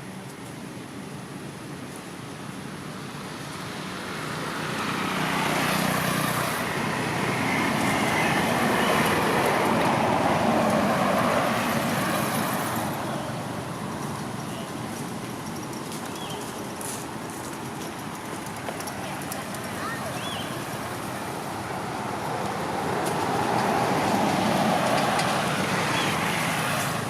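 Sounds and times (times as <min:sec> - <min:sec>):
road vehicle passing by: 0:03.0 - 0:27.0.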